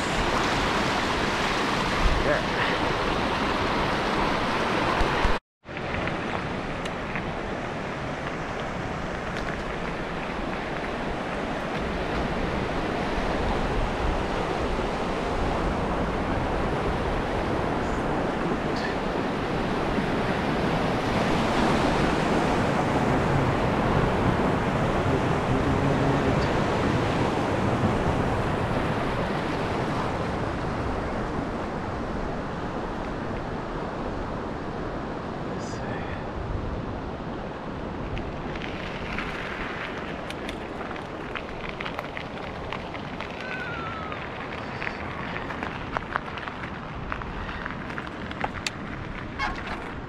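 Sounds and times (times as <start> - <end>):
river rushing in flood: 0.0 - 50.0.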